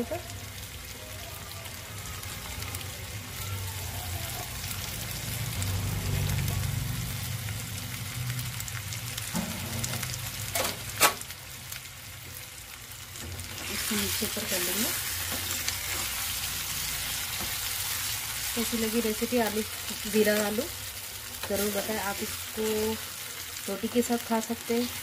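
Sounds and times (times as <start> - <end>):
potatoes frying in oil: 0.0 - 25.0.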